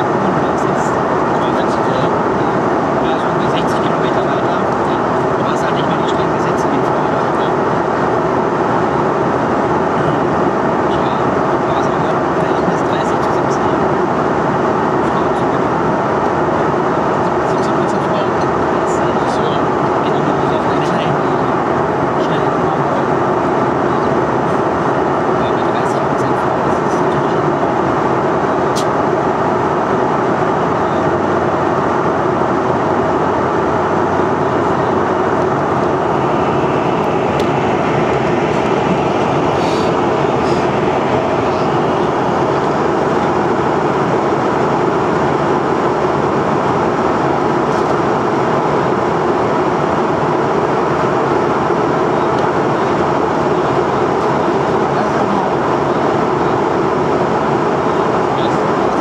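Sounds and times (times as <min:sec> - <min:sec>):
jet cabin engine and airflow noise: 0:00.0 - 0:59.0.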